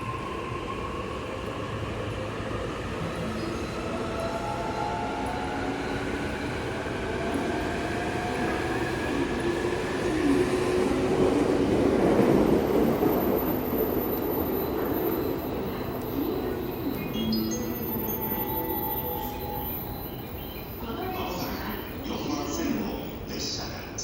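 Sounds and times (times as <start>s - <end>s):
electric train rumbling: 0.0s - 24.0s.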